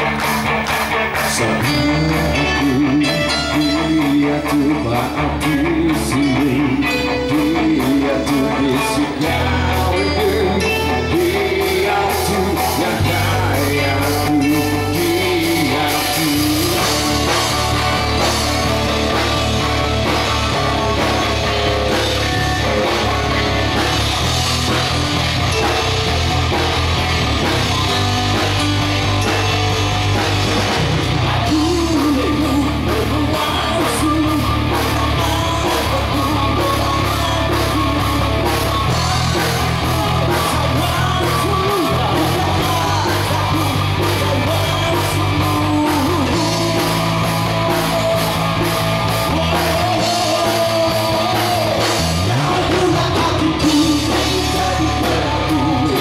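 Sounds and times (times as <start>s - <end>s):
live rock band playing: 0.0s - 56.0s
man singing: 1.0s - 29.6s, 31.2s - 56.0s.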